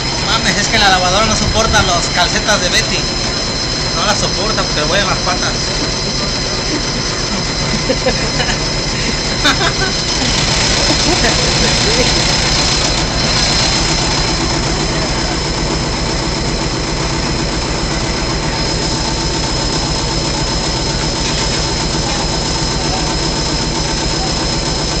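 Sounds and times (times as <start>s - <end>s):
washing machine whine and rumble: 0.0s - 25.0s.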